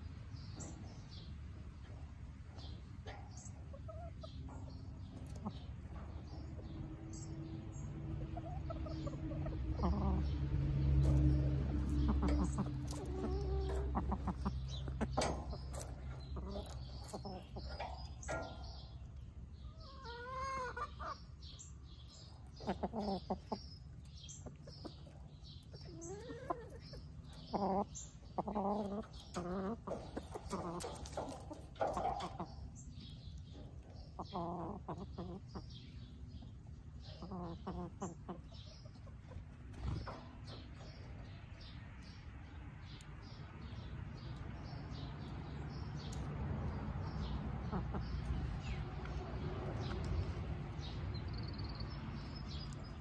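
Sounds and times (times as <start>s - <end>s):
hens clucking: 0.0s - 53.0s.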